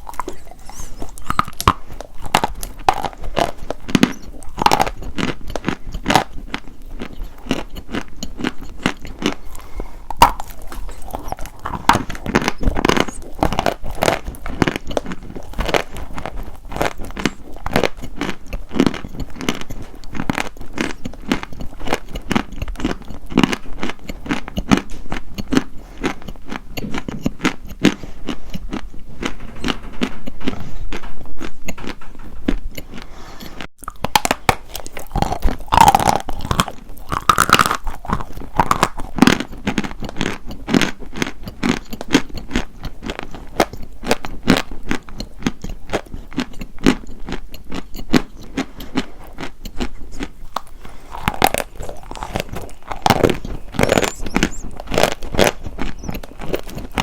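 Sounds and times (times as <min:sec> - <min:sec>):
chewing crunchy chalk: 0:00.0 - 0:57.0.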